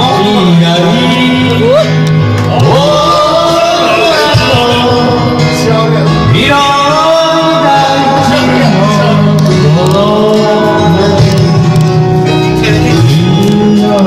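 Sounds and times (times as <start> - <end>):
loud backing track: 0.0 - 14.0
person singing karaoke: 0.0 - 14.0.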